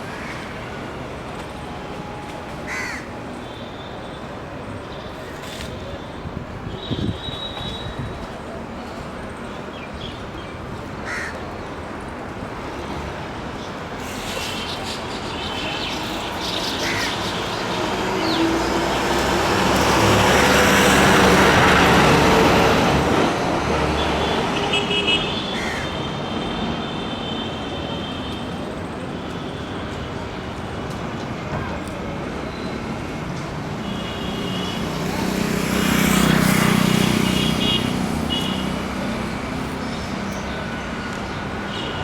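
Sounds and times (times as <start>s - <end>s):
passing vehicles: 4.2s - 42.0s.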